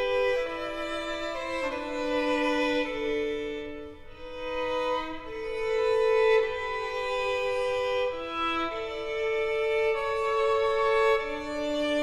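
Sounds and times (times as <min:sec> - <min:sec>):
bowed strings with violin: 0:00.0 - 0:12.0.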